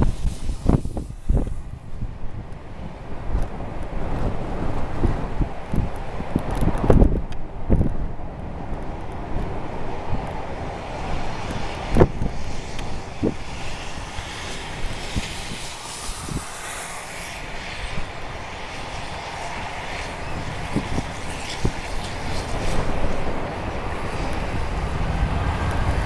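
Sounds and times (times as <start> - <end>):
jet engines rushing: 0.0 - 26.0
wind buffeting microphone: 0.0 - 26.0.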